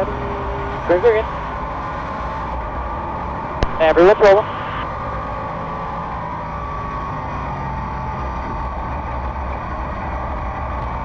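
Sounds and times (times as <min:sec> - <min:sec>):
race car engine drone: 0:00.0 - 0:11.0.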